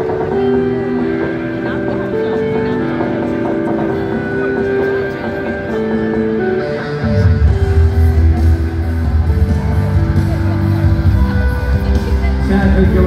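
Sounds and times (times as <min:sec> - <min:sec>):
guitar: 0:00.0 - 0:13.0
rock band playing: 0:00.0 - 0:13.0.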